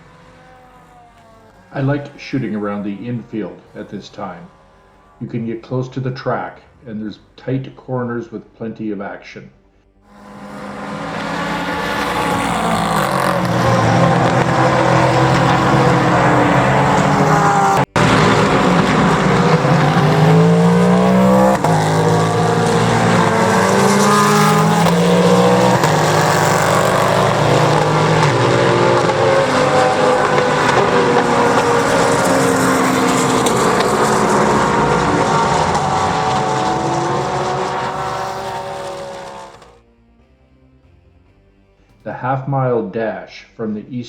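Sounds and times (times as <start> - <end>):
racing car engines passing: 0.0 - 8.4, 10.1 - 39.8.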